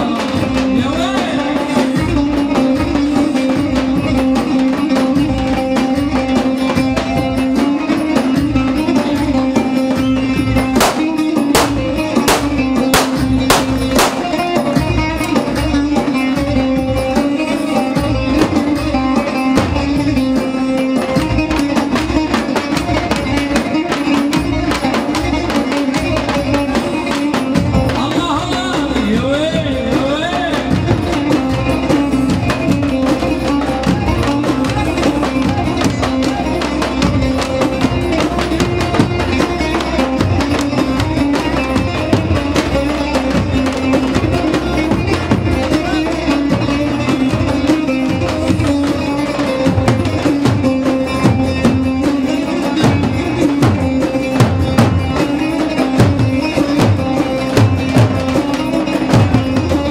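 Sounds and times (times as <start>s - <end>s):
hand drum percussion: 0.0s - 59.9s.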